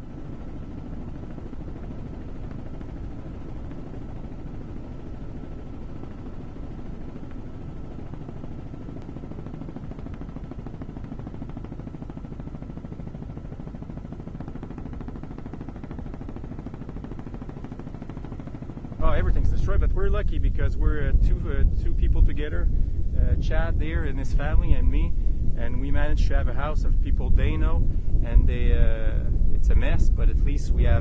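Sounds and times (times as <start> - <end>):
helicopter rotor chopping: 0.0 - 31.0
thin steady whine: 0.0 - 31.0.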